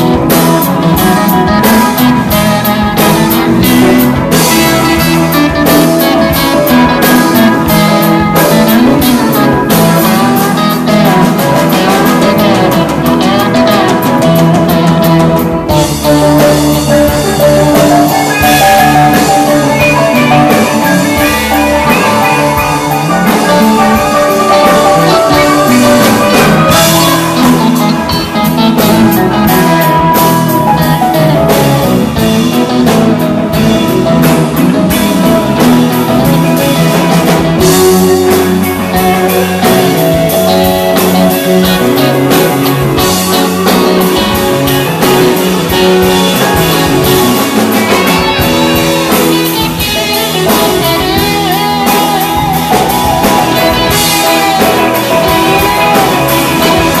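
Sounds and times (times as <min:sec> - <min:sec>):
live band with guitar and drums: 0:00.0 - 0:57.0.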